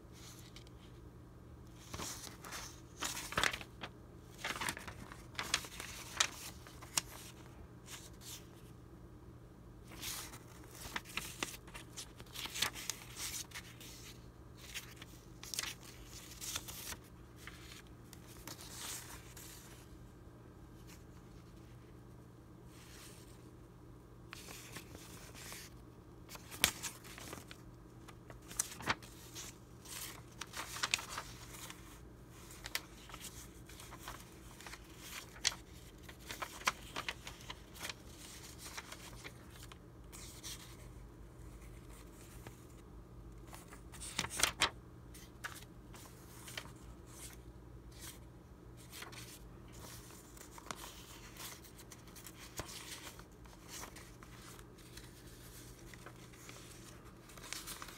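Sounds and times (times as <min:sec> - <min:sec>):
old paper sheets rustling: 0:00.1 - 0:01.0, 0:01.7 - 0:08.8, 0:09.8 - 0:20.0, 0:20.8 - 0:23.5, 0:24.2 - 0:57.9.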